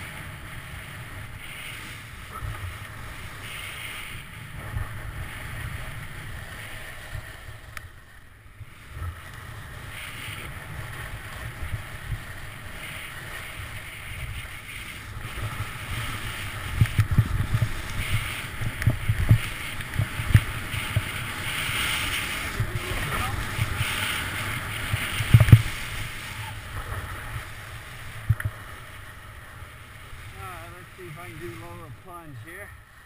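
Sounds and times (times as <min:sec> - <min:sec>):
skis scraping on snow: 0:00.0 - 0:33.0
wind rushing over microphone: 0:00.0 - 0:33.0.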